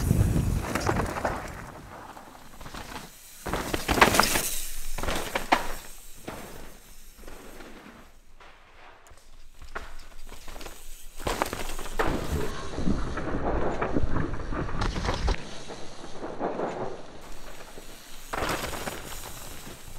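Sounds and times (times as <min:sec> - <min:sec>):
bike tyres crunching on trail: 0:00.0 - 0:19.9.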